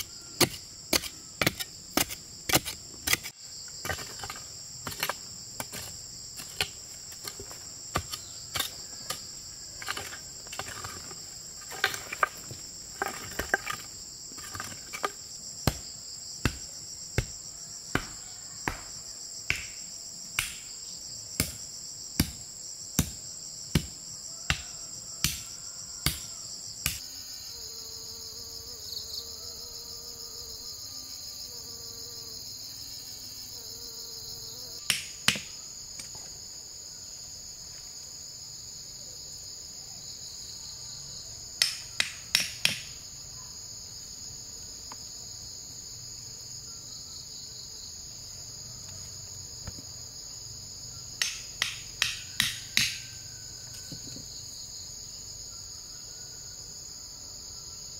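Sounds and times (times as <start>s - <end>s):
insects chirring: 0.0s - 57.9s.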